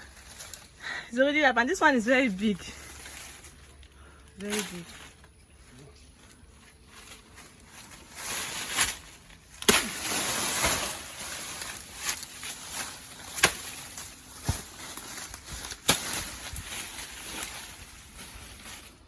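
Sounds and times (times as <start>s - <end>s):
rustling of leaves and stalk: 0.0s - 19.0s.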